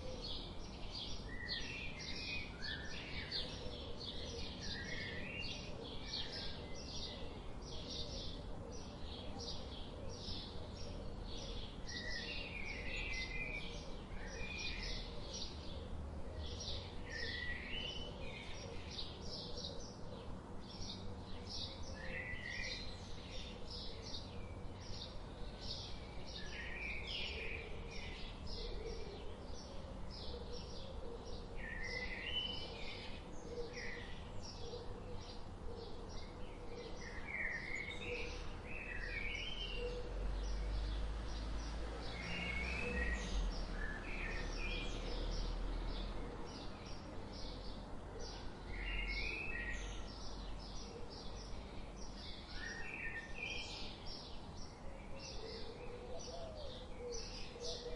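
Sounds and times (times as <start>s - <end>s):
birds chirping and twittering: 0.0s - 57.9s.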